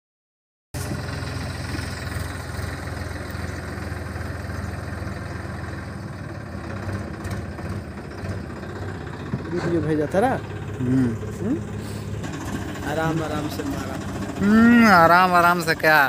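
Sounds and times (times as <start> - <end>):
tractor diesel engine running: 0.8 - 16.0.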